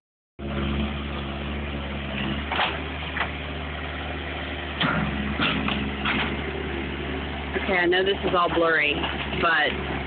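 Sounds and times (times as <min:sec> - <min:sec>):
bulldozer diesel engine running: 0:00.4 - 0:10.0.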